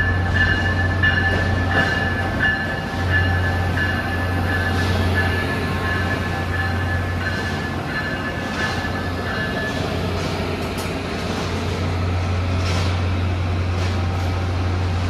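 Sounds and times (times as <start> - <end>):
electric train low hum: 0.0 - 15.0.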